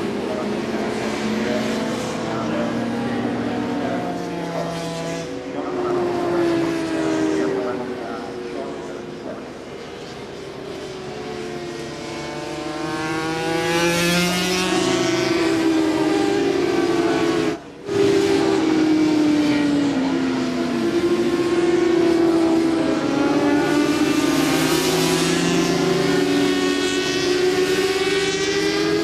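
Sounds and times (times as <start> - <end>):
motorcycles passing at high revs: 0.0 - 29.0.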